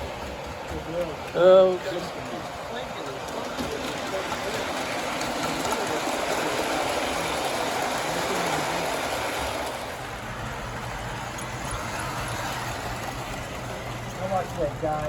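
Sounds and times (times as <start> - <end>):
model steam locomotive rattling: 0.0 - 15.0.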